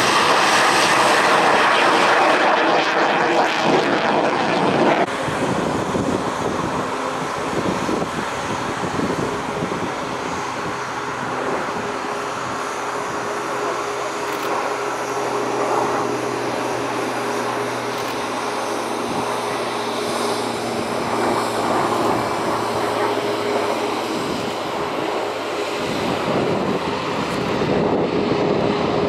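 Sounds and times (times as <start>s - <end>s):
helicopter engine and rotor noise: 0.0s - 29.0s.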